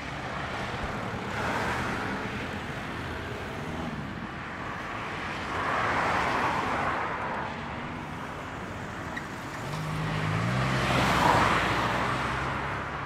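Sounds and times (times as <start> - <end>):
steady road noise: 0.0 - 13.0.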